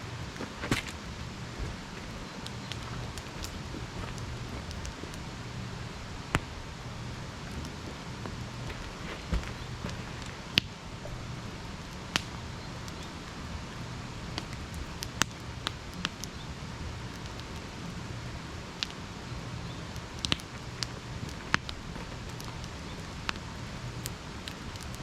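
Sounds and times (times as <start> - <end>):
campfire crackling pops: 0.2 - 25.0.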